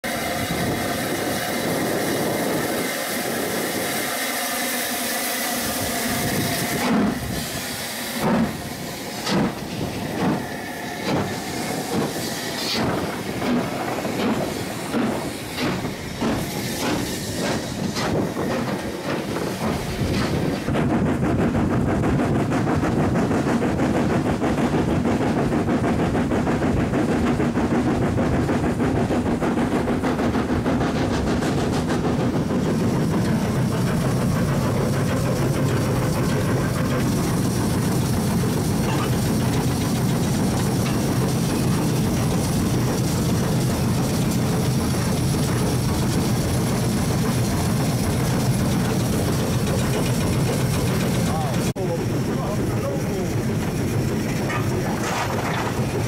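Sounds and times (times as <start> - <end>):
locomotive running rush: 0.0 - 56.0
steam hissing: 0.0 - 56.0
steam locomotive exhaust chuffs: 0.1 - 56.0.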